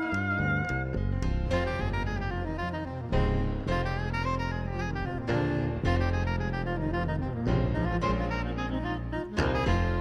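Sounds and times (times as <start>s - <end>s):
bass and band backing: 0.0s - 10.0s
saxophone melody: 0.0s - 10.0s.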